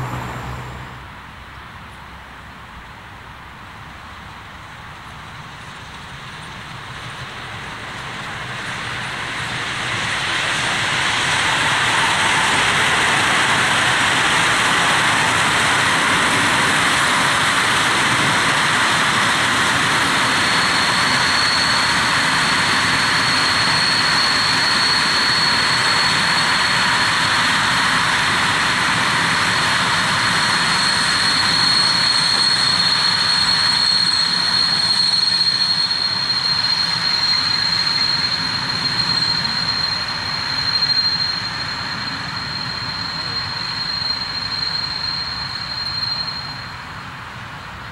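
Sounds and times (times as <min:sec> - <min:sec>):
train wheels rushing on rails: 0:00.0 - 0:47.9
thin high whine: 0:05.5 - 0:47.9.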